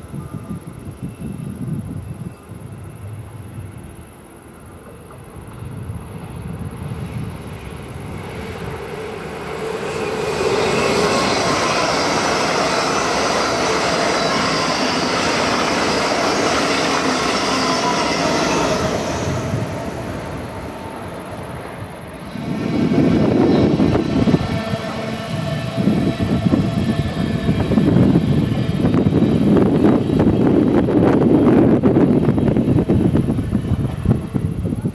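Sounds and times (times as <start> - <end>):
train wheels rushing on rails: 0.0 - 34.9.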